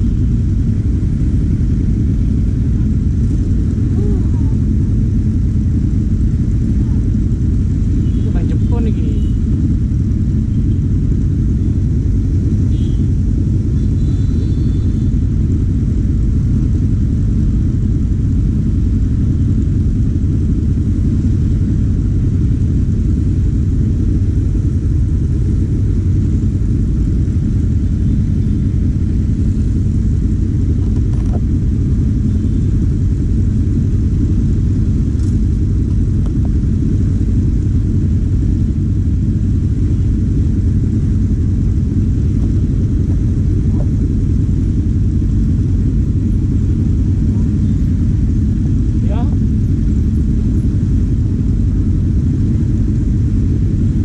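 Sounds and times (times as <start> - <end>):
engine running low rumble: 0.0 - 54.0.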